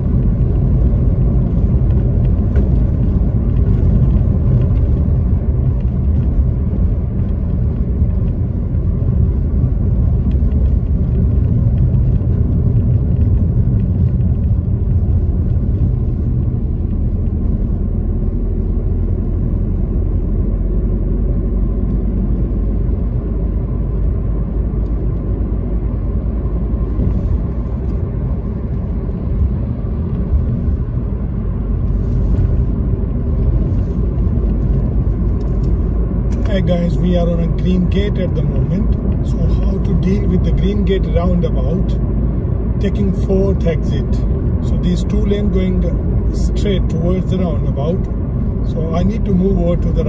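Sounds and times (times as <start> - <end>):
car cabin road rumble: 0.0 - 50.0.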